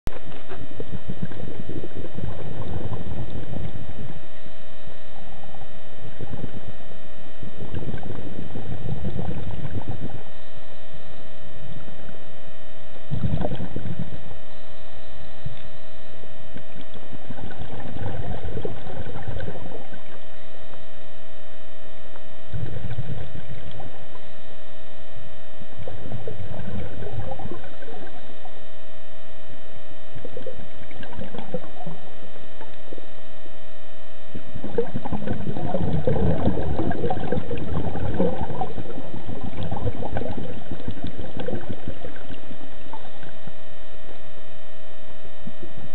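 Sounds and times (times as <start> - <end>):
exhaled bubbles underwater: 0.1 - 44.8
steady high whine: 0.1 - 45.9.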